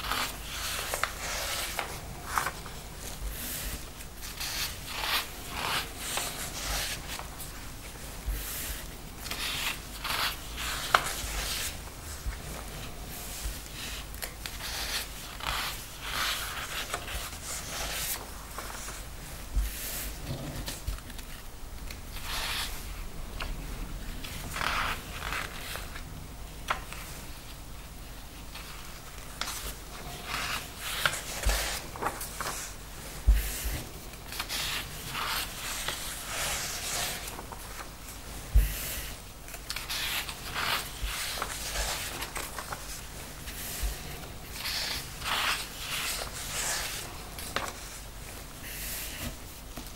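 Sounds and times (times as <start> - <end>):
paper rustling: 0.0 - 22.8, 28.5 - 49.9.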